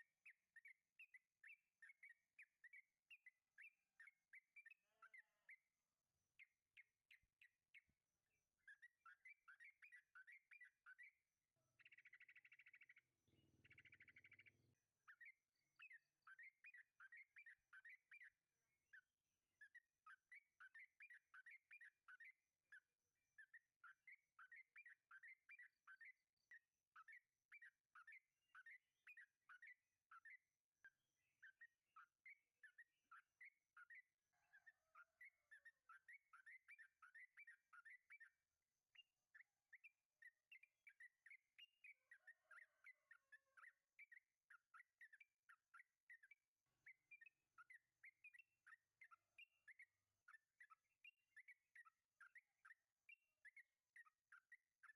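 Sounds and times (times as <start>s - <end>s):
bird warbling song: 0.0s - 54.9s.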